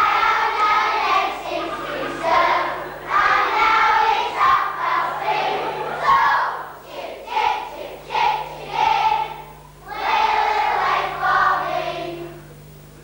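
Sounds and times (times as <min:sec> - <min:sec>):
young children singing: 0:00.0 - 0:12.6
steady low hum: 0:00.0 - 0:13.0.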